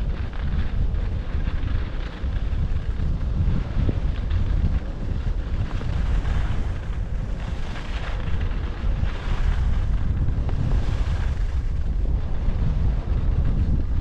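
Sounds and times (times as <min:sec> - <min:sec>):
skis sliding over snow: 0:00.0 - 0:14.0
wind buffeting microphone: 0:00.0 - 0:14.0.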